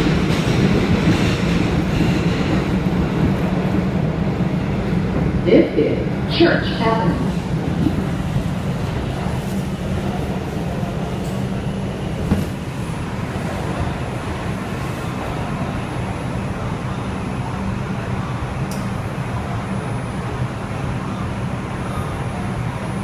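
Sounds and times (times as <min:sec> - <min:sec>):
subway car rumble: 0:00.0 - 0:23.0.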